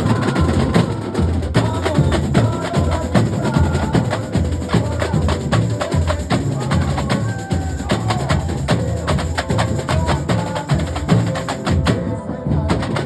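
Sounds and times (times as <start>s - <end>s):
deep drum beats: 0.0s - 13.0s.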